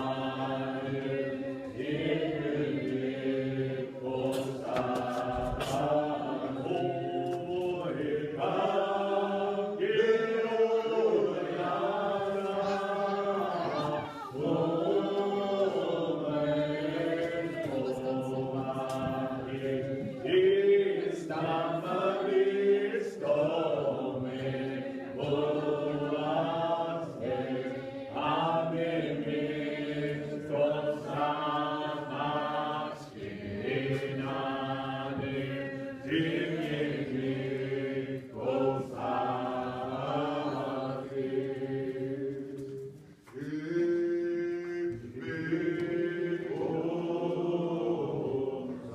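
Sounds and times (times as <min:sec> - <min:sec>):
congregation singing a hymn: 0:00.0 - 0:48.9.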